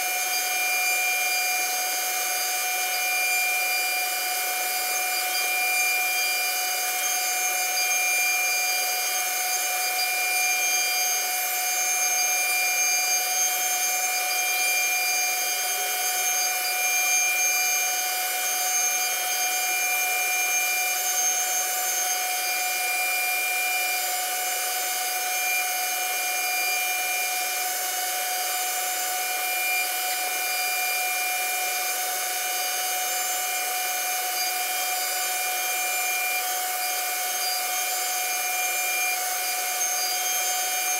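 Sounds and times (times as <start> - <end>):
router spindle high whine: 0.0 - 40.9.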